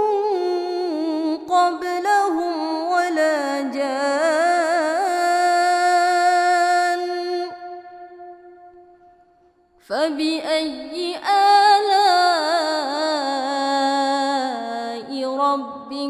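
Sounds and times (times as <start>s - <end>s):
woman chanting melodically: 0.0s - 8.6s, 9.9s - 16.0s.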